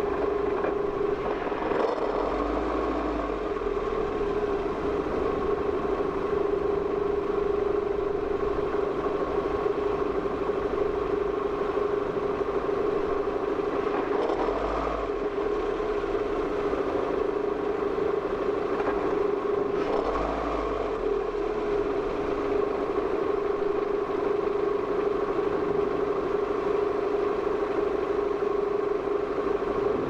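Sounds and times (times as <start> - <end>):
car engine hum: 0.0 - 30.0.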